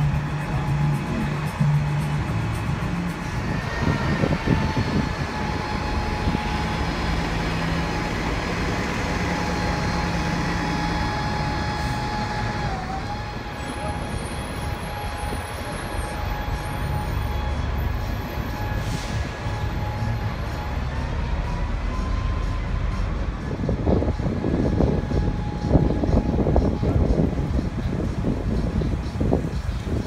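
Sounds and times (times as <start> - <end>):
bus engines idling: 0.0 - 30.0.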